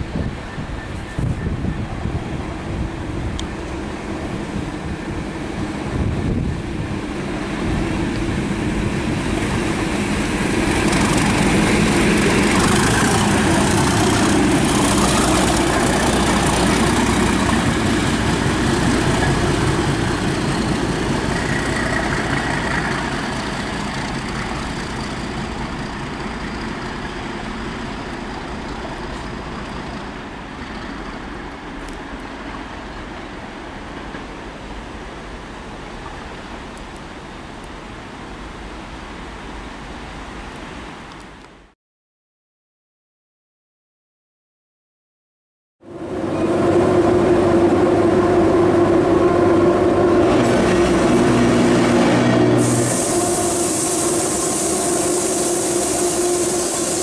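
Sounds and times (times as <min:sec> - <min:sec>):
train wheels on rails: 0:00.0 - 0:35.0, 0:45.9 - 0:57.0
diesel locomotive engine: 0:00.0 - 0:41.2, 0:45.8 - 0:57.0.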